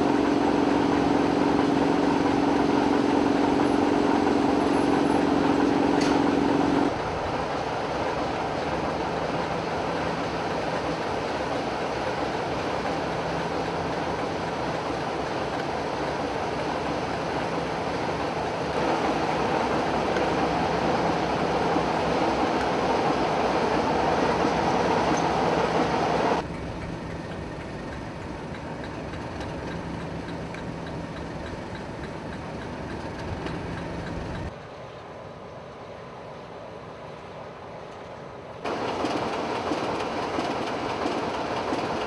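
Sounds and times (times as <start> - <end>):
diesel locomotive engines droning: 0.0 - 42.0.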